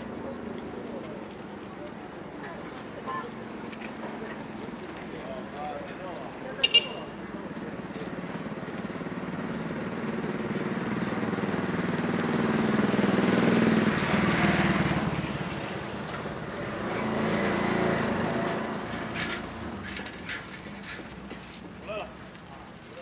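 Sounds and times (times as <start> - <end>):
motorcycle engines passing by: 0.0 - 23.0.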